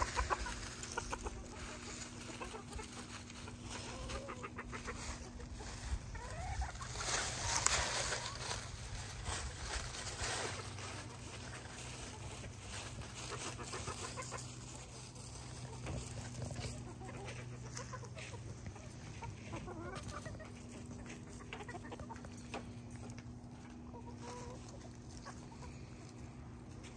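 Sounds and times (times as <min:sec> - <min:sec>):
chickens clucking: 0:00.0 - 0:26.9
rustling: 0:00.0 - 0:26.9.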